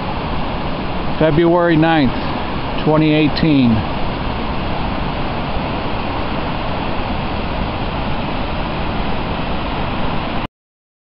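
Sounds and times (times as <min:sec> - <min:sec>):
waterfall rushing: 0:00.0 - 0:10.5.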